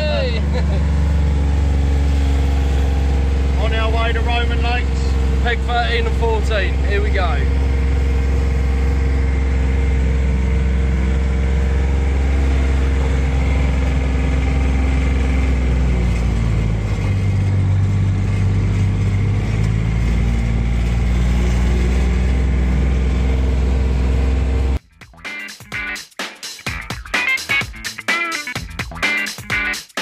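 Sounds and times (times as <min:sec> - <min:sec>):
utility vehicle engine running: 0:00.0 - 0:24.8.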